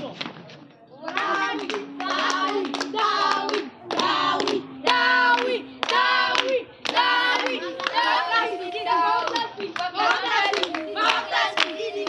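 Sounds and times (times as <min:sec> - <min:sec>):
children chanting: 0:00.9 - 0:12.0
hands clapping: 0:01.0 - 0:08.4, 0:09.2 - 0:12.0.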